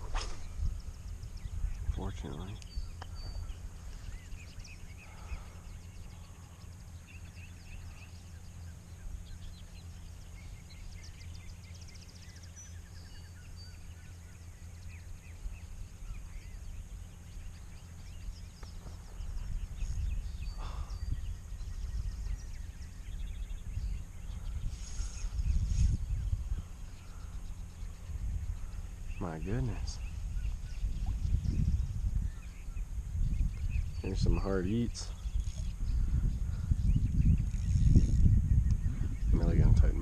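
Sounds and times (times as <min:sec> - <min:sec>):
songbirds chirping and trilling: 0:00.0 - 0:40.0
steady low rumble: 0:00.0 - 0:40.0.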